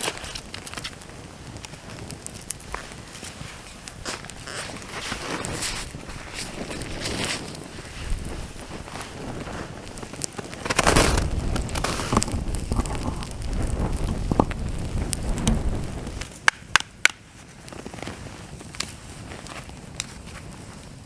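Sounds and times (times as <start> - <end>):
sharp fire snaps: 0.0 - 20.9
campfire crackling: 0.0 - 21.0.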